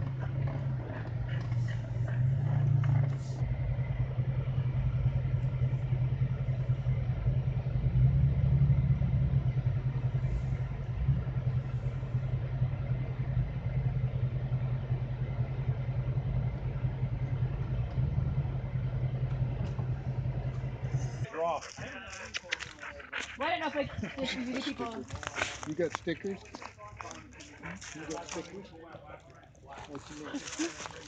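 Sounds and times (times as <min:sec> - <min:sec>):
car engine low drone: 0:00.0 - 0:31.0.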